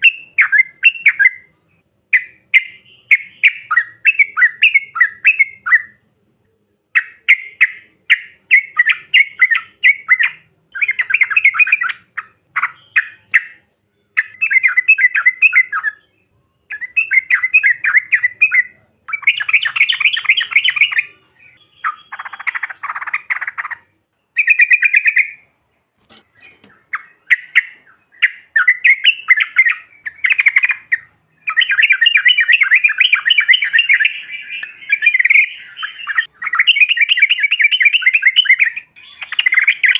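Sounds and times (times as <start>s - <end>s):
bird chattering song: 0.0s - 6.1s, 6.9s - 39.9s.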